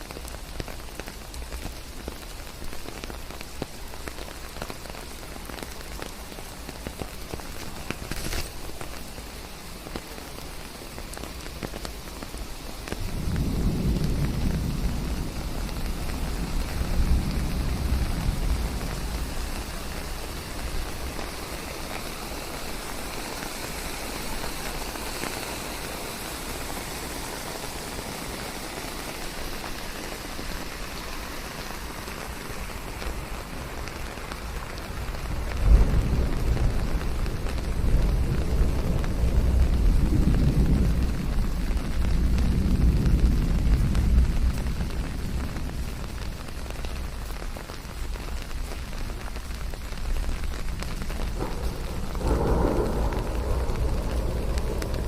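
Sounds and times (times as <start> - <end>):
rain falling in a forest: 0.0 - 55.0
low rolling thunder: 10.9 - 55.0.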